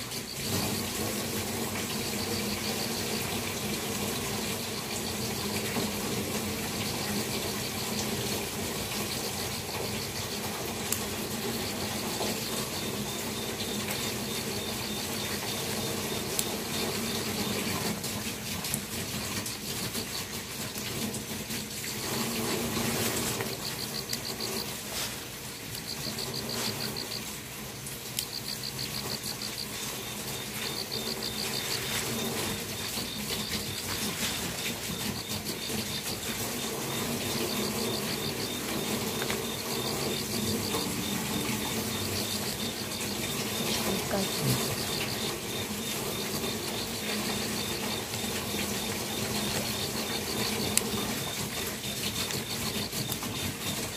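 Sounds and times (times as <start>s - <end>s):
insect high trill: 0.0s - 27.4s, 28.1s - 53.9s
crickets chirping: 0.0s - 53.9s.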